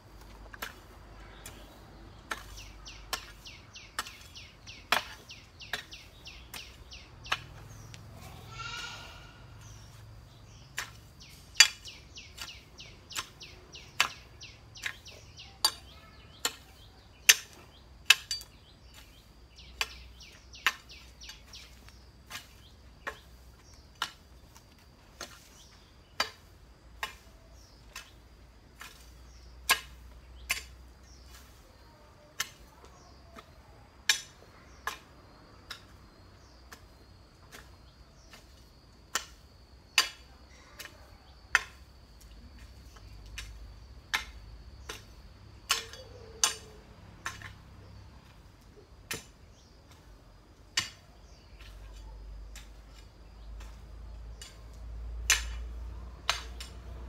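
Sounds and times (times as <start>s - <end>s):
small birds chirping: 0.0s - 57.0s
hoe chopping into ground: 0.2s - 9.0s, 9.6s - 41.9s, 42.6s - 57.0s.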